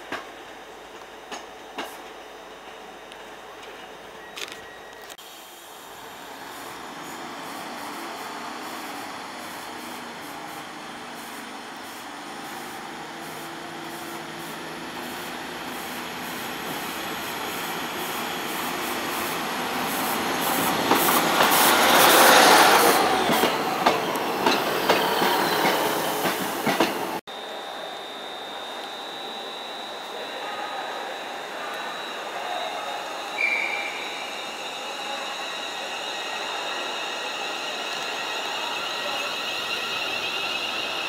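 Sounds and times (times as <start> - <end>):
diesel train passing: 0.0 - 27.9, 28.5 - 41.0.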